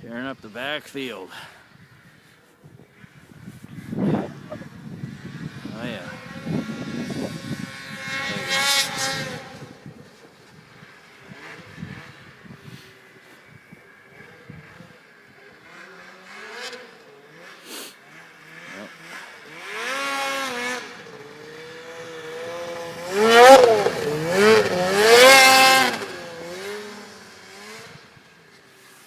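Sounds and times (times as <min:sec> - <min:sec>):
snowmobile engine revving: 0:02.9 - 0:29.0.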